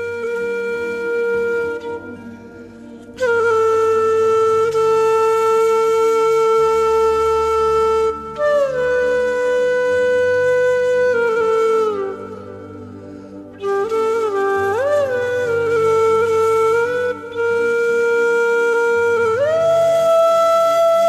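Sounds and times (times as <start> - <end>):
solo wind instrument notes: 0.0 - 21.0.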